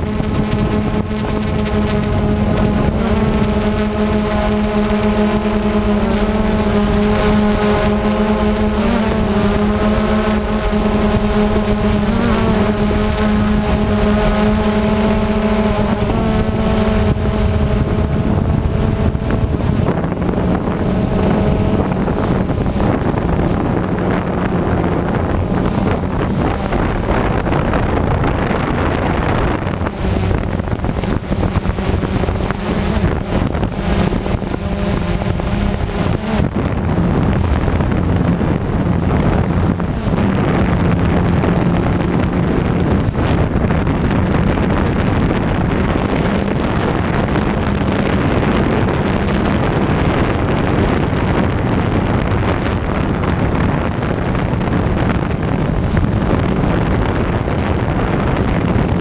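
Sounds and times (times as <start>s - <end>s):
drone motors whining: 0.0s - 47.5s
wind noise: 0.0s - 59.0s.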